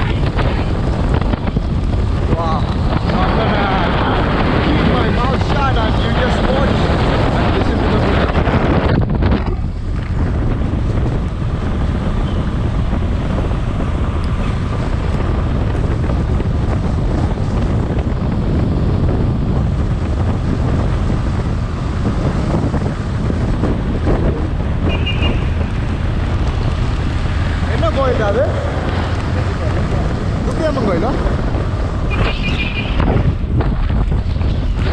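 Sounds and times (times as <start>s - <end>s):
motorcycle engine and road rumble: 0.0s - 34.9s
wind rushing over microphone: 0.0s - 34.9s.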